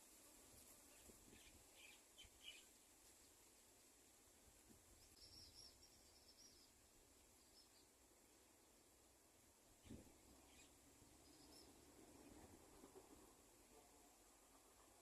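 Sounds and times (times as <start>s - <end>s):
quiet background hiss: 0.0s - 15.0s.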